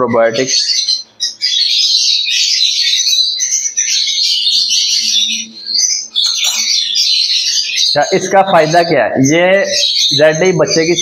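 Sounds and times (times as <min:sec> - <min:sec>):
lovebirds chattering: 0:00.0 - 0:11.0.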